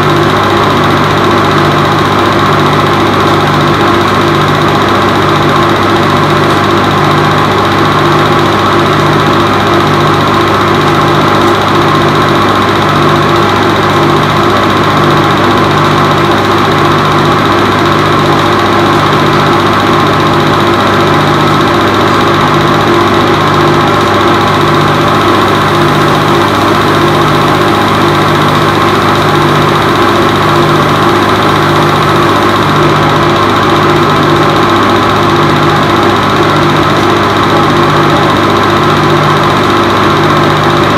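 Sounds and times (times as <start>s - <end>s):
movie projector motor whirring: 0.0s - 40.9s.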